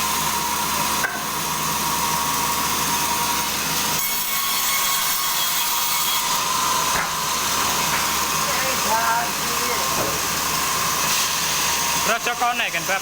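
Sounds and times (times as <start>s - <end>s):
sawmill saw cutting log: 0.0s - 13.0s.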